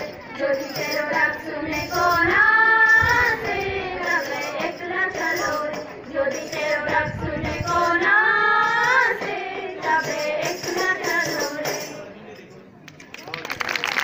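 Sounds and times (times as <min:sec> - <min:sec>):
high voices singing: 0:00.0 - 0:12.1.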